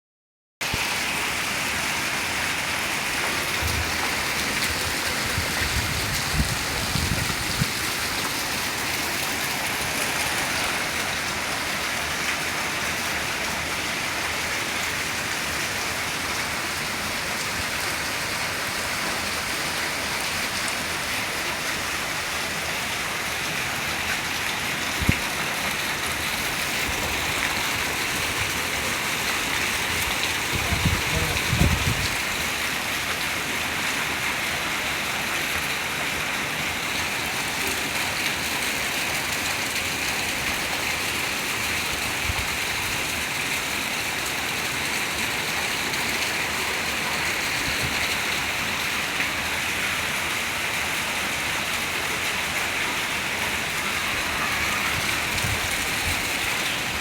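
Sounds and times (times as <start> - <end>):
rain falling: 0.6 - 57.0.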